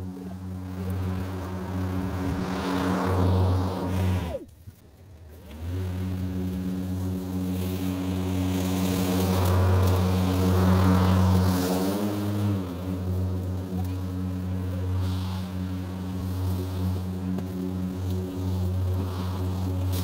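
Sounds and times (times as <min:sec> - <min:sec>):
electric lawn mower humming: 0:00.0 - 0:20.0.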